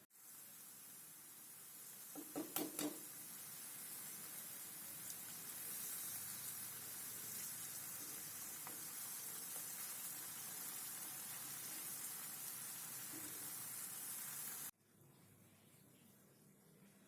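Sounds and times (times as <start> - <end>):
food sizzling in hot oil: 0.1 - 14.8.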